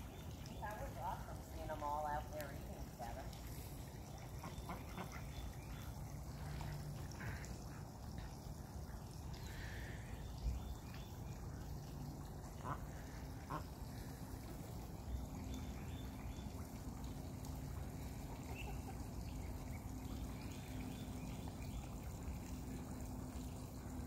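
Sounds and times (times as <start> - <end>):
fountain splashing: 0.0 - 24.0.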